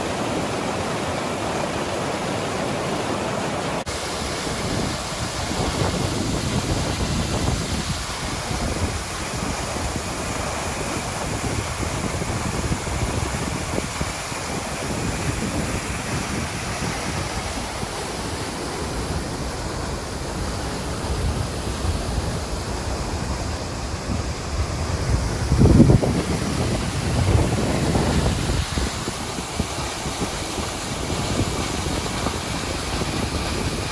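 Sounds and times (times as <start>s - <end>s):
waterfall roaring: 0.0s - 33.9s
wind buffeting the microphone: 3.9s - 33.9s.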